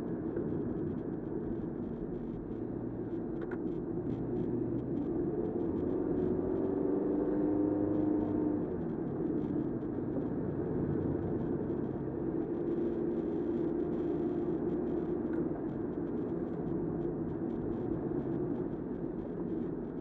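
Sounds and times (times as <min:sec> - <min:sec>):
car engine drone: 0:00.0 - 0:20.0.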